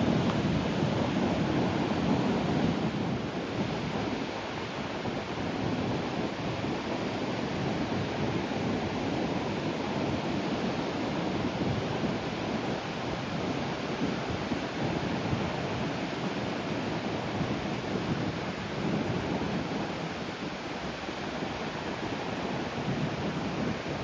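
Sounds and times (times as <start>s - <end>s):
sea waves breaking on shore: 0.0s - 24.0s.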